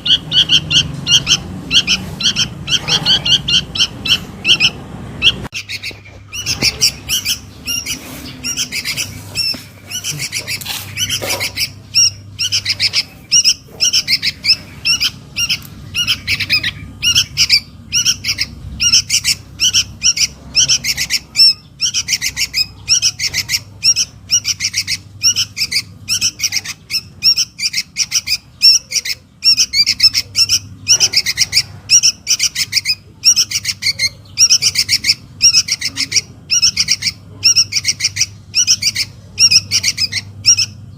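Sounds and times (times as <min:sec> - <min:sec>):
young bird harsh chirping: 0:00.0 - 0:40.9.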